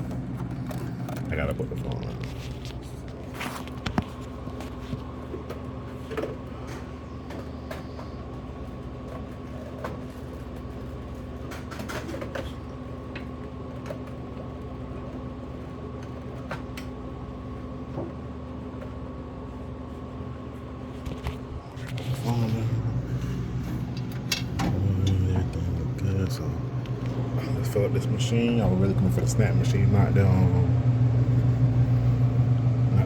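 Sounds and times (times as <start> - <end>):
vending machine electrical hum: 0.0 - 33.0.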